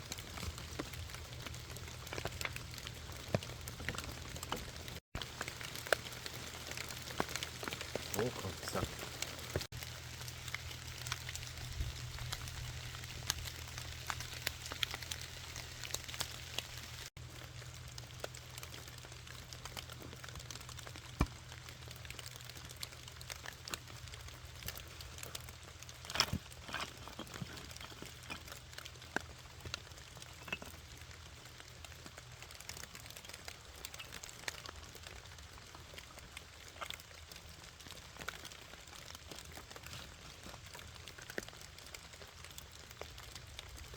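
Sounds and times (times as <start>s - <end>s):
campfire crackling: 0.0s - 43.9s
raindrops pattering: 0.0s - 43.9s.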